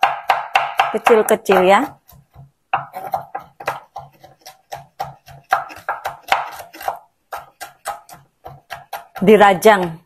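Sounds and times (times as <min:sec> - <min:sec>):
knife chopping on wooden board: 0:00.0 - 0:10.0.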